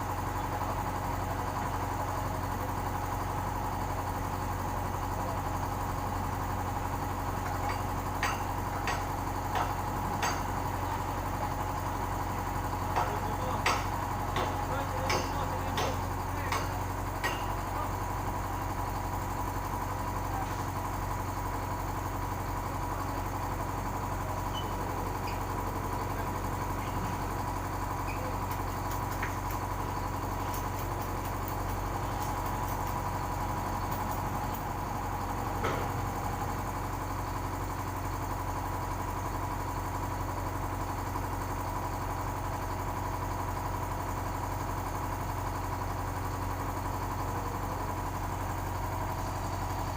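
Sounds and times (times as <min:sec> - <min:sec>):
heavy equipment engine idling: 0:00.0 - 0:49.9.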